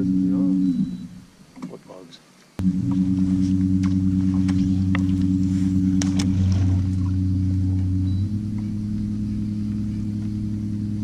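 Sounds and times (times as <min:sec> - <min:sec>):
boat motor humming: 0:00.0 - 0:01.4, 0:02.6 - 0:11.0.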